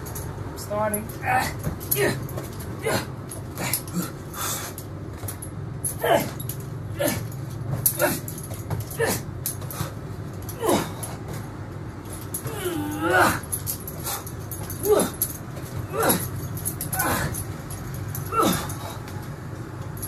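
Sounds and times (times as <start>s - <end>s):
heavy chain rattling and clanking: 0.0s - 20.0s.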